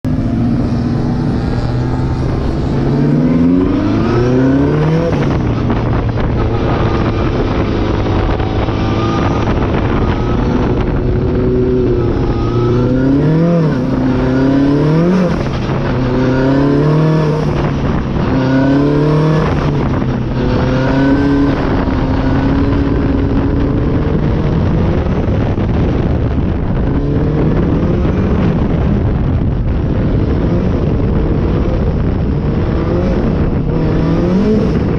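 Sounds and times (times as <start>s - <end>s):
car engine revving: 0.0s - 34.9s
wind rush: 0.0s - 34.9s.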